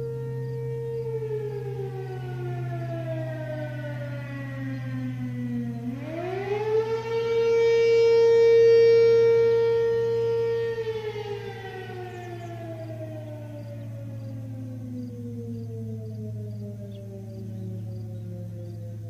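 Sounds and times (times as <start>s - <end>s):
distant siren wailing: 0.0s - 19.0s
steady low hum: 0.0s - 19.0s.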